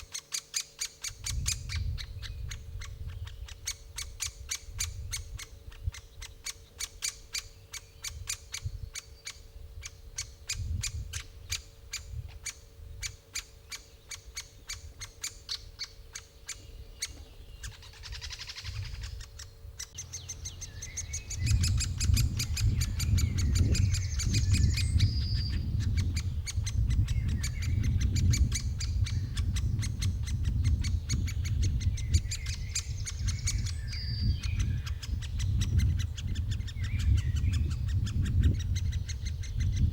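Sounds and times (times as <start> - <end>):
woodpecker calling: 0.0 - 39.9.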